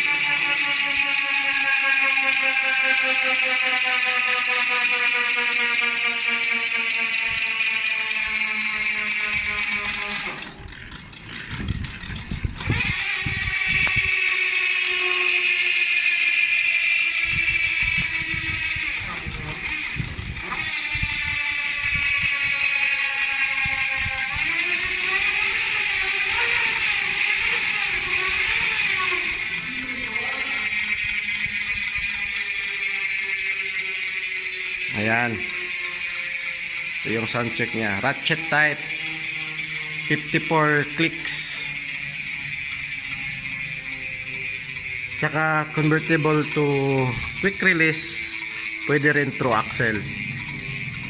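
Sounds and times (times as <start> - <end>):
bicycle hub freewheel clicking: 0.0 - 51.0.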